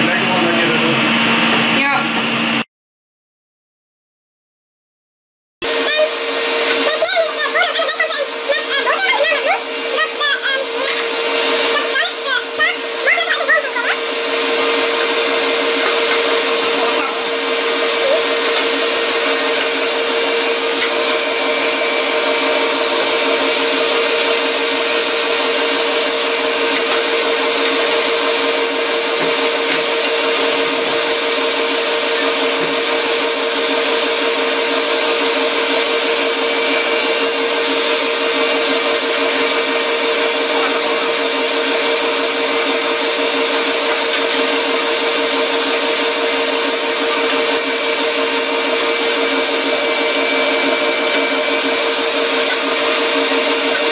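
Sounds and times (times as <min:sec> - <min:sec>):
stand mixer whining: 0:00.0 - 0:02.6, 0:05.6 - 0:53.9.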